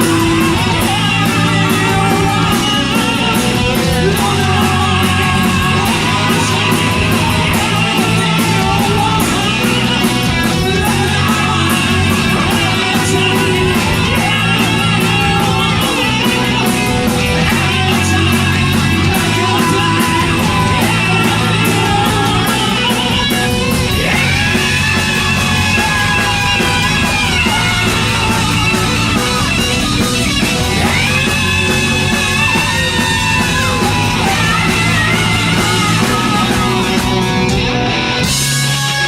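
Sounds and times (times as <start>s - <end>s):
hard rock band playing live: 0.0s - 39.0s.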